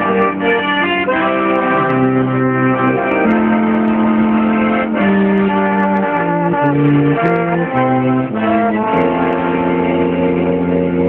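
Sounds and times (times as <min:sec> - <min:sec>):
accordion and brass in harmony: 0:00.0 - 0:11.0.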